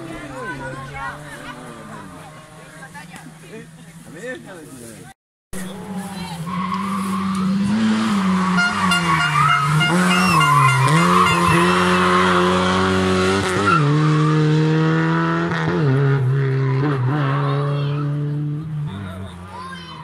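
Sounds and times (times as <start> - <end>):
rally car engine revving: 0.0 - 4.0, 5.6 - 20.0.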